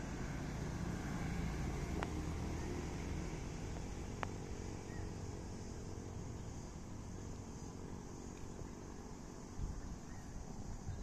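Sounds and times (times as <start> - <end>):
distant motor vehicle rumble: 0.0 - 11.0.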